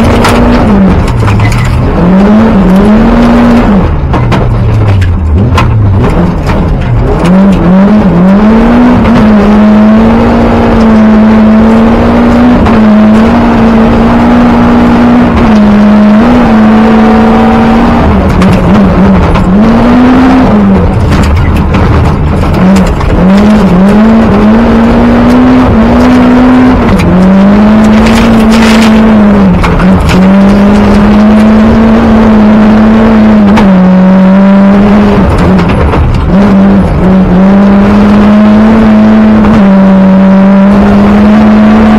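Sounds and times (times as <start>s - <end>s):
tyre and gravel noise: 0.0s - 10.8s, 14.6s - 39.6s
rally car engine at full throttle: 0.0s - 41.9s.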